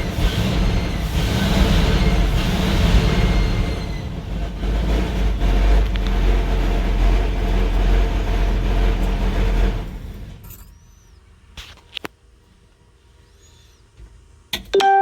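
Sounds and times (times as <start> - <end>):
truck engine running: 0.0 - 12.7.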